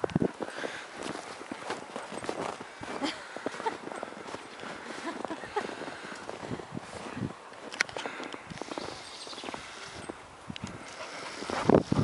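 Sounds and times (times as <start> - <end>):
footsteps on snow: 0.1 - 10.2, 10.8 - 12.0.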